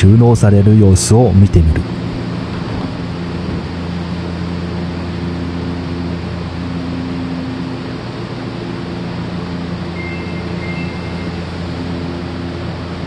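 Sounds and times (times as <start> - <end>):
train equipment drone: 0.0 - 13.0.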